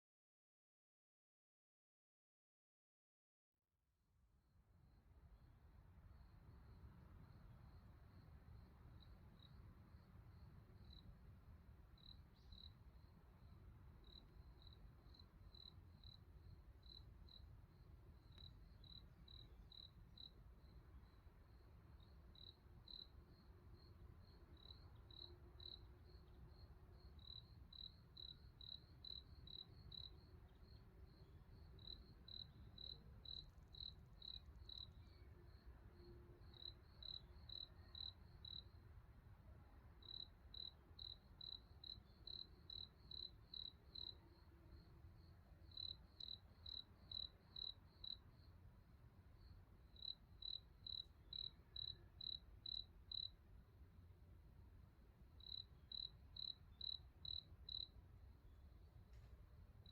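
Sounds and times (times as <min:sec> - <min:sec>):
cricket chirping: 0:06.1 - 0:11.2, 0:11.8 - 0:39.0, 0:39.6 - 0:53.5, 0:55.2 - 0:59.9.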